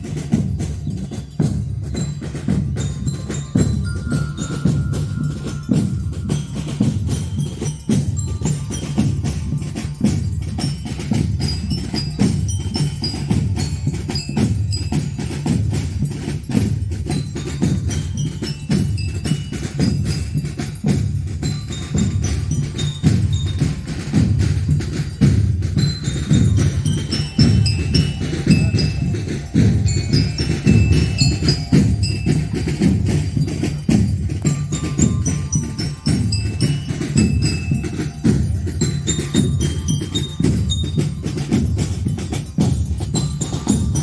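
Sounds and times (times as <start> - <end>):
bass drums beating: 0.0 - 44.0
bell lyres playing melody: 0.0 - 44.0.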